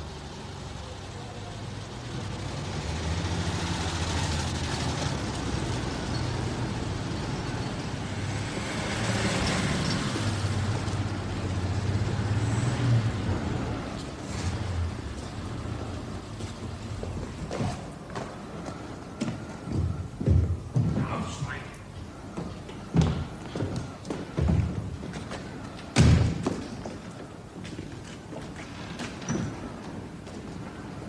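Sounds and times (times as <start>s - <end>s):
car engines running low: 0.0s - 31.0s.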